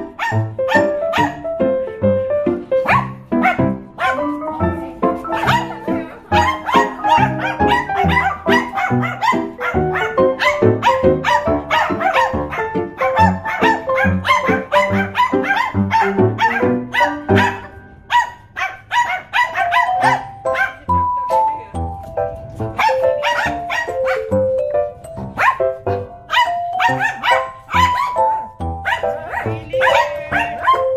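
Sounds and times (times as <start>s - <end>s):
dogs barking: 0.0s - 1.8s, 2.8s - 21.5s, 22.6s - 30.9s
background music: 0.0s - 30.9s.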